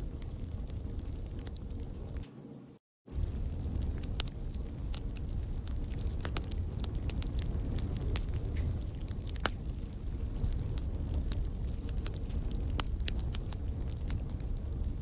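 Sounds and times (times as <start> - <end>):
steady low rumble: 0.0 - 2.2, 3.1 - 15.0
wood fire crackling and popping: 0.0 - 2.5, 3.1 - 15.0.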